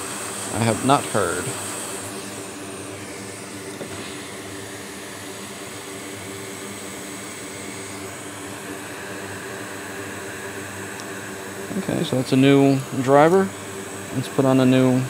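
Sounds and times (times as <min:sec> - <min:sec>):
fan whirring with low hum: 0:00.0 - 0:15.0.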